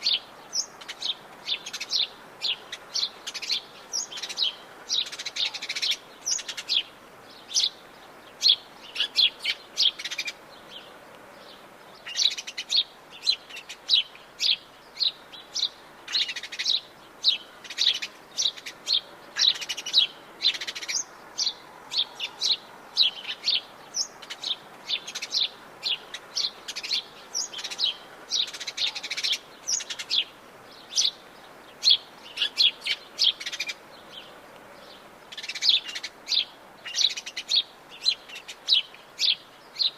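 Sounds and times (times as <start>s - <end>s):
birds chirping and trilling: 0.0s - 39.9s
faint background hiss: 0.0s - 39.9s.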